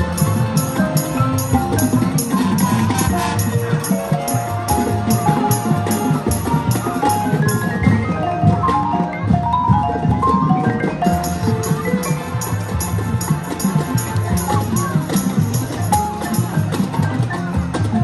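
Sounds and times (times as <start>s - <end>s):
marimbas playing quick melody: 0.0s - 17.0s
drums: 0.0s - 18.0s
marching band music: 0.0s - 18.0s.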